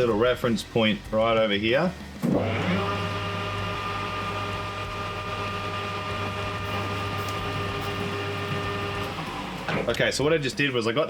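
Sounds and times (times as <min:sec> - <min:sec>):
lathe motor hum: 0:00.0 - 0:10.8.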